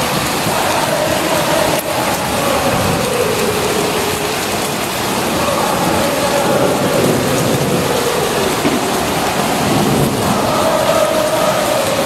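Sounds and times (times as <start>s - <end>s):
distant crowd singing and chanting: 0.0s - 12.0s
rain hiss: 0.0s - 12.0s.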